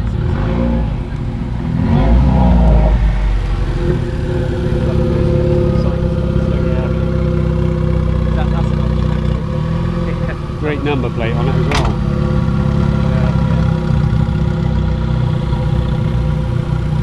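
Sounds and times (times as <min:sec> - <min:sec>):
car engine revving and running: 0:00.0 - 0:17.0.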